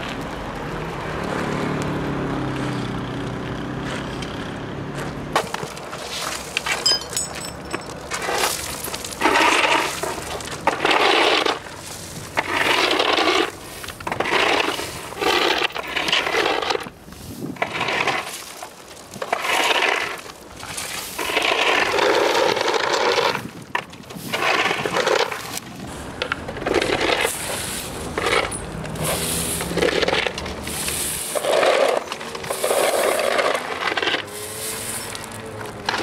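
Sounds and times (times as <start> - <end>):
skateboard scraping and clattering: 4.9 - 36.0.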